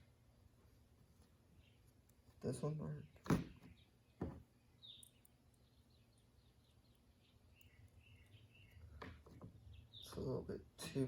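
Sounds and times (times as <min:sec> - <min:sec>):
faint bird chirps: 0:01.4 - 0:11.0.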